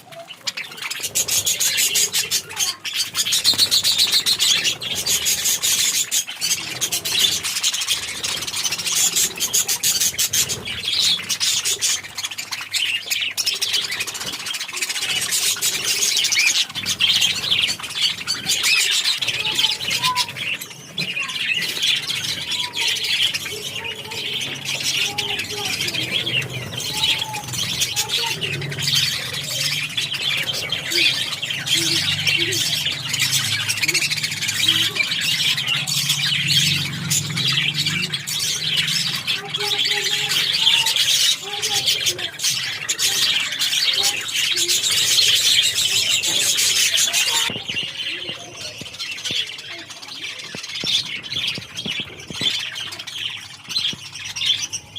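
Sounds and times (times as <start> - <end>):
bird squawks: 0.0 - 54.9
birds chirping and chattering: 0.0 - 54.9.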